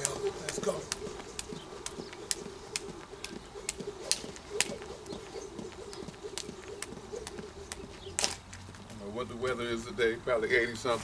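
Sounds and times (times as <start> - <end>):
jump rope slapping dirt: 0.0 - 9.6.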